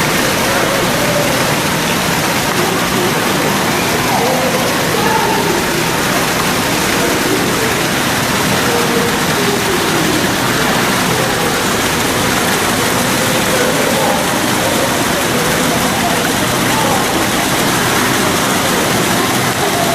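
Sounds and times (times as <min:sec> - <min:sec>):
faint wavering voices: 0:00.0 - 0:19.9
steady rushing noise: 0:00.0 - 0:19.9.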